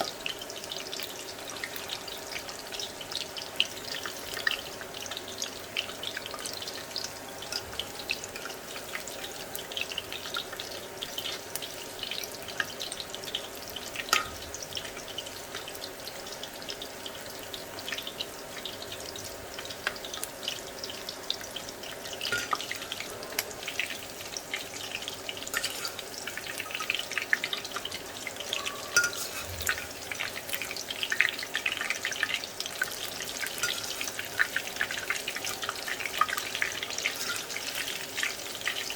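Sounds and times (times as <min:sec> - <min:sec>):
food deep-frying in hot oil: 0:00.0 - 0:38.9.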